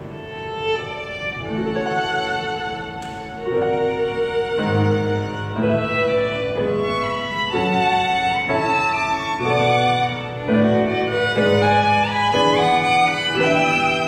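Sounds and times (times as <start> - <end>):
grand piano accompaniment: 0.0 - 14.0
violins playing slow melody: 0.0 - 14.0.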